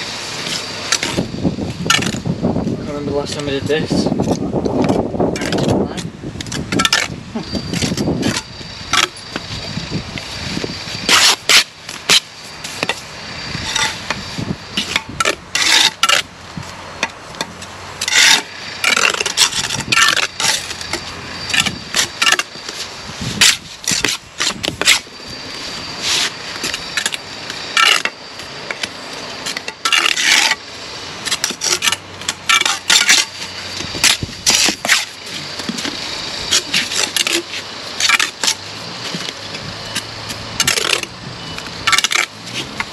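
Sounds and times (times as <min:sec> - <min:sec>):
trowel scraping mortar: 0:04.2 - 0:09.7, 0:10.5 - 0:16.3, 0:17.4 - 0:30.6, 0:31.2 - 0:42.9.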